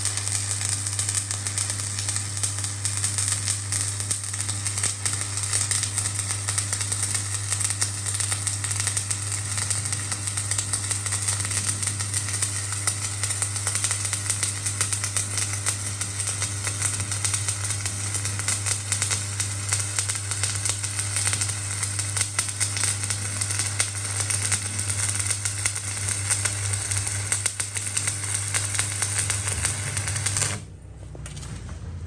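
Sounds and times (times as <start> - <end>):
welding arc crackling: 0.0 - 30.7.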